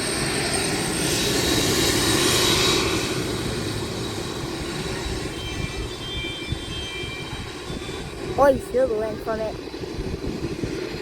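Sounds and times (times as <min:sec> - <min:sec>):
jet engines rushing and whining: 0:00.0 - 0:11.0.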